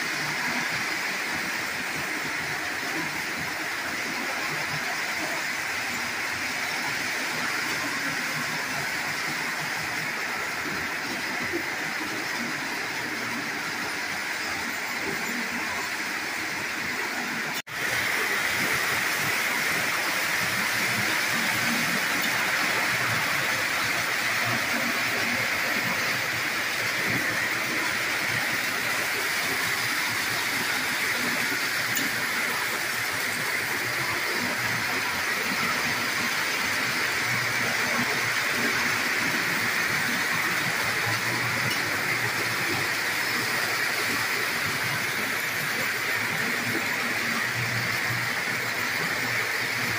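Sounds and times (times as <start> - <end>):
model trains whirring on rails: 0.0 - 49.9.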